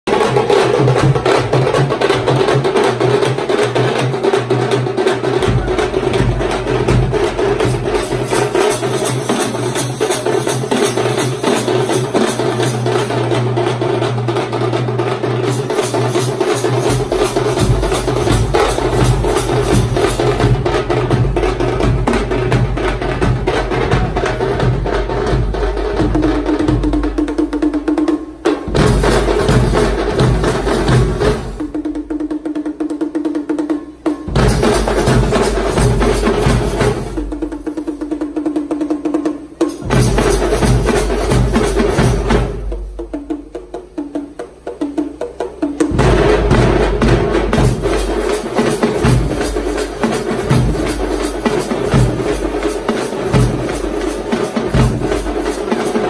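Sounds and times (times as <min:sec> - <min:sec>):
frame drums beaten with sticks: 0:00.1 - 0:56.0.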